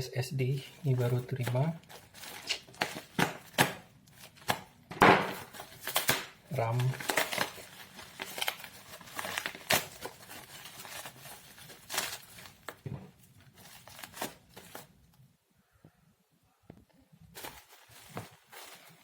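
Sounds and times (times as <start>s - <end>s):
plastic packaging crinkling: 0.5s - 15.0s, 17.3s - 19.0s.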